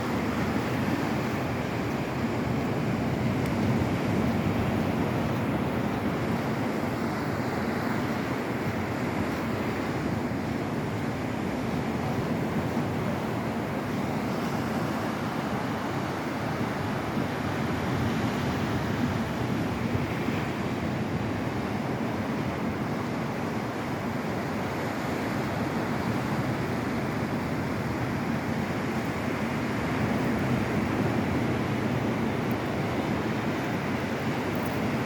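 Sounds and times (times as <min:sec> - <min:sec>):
waves breaking on beach: 0:00.0 - 0:35.0.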